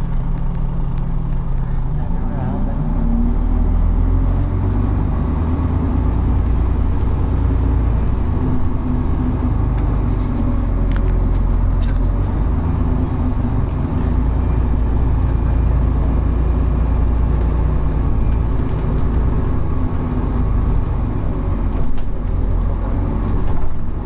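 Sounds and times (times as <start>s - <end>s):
bus diesel engine drone: 0.0s - 24.0s.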